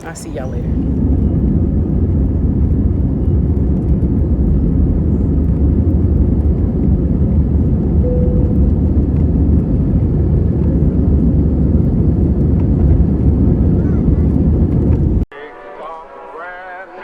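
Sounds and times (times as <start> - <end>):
jet engines rumbling: 0.0 - 15.3.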